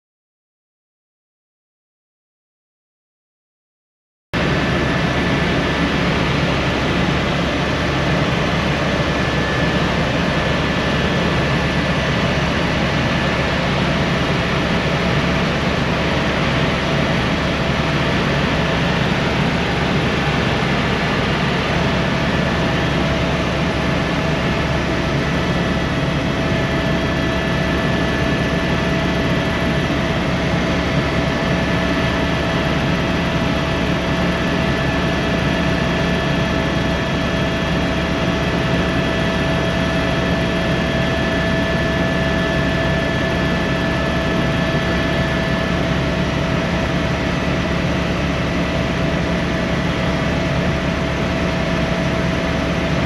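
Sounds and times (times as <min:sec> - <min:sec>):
helicopter engine and rotor: 0:04.4 - 0:53.0.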